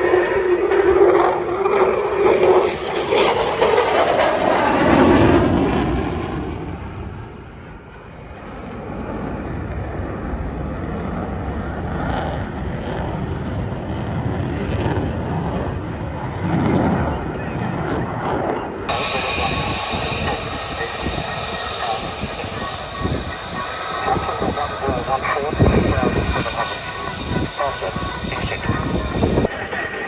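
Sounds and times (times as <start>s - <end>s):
aircraft engine noise: 0.0s - 30.0s.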